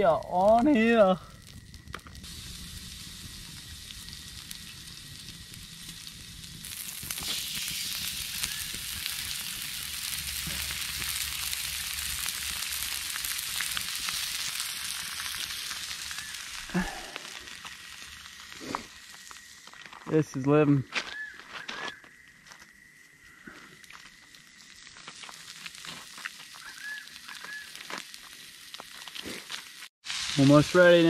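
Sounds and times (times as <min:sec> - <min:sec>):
food sizzling on grill plate: 0:00.0 - 0:21.3, 0:23.8 - 0:31.0.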